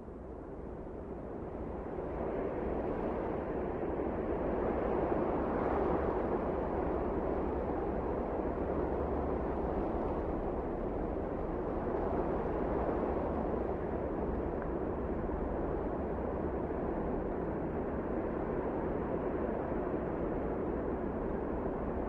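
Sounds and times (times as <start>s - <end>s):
steady wind blowing: 0.0s - 22.0s.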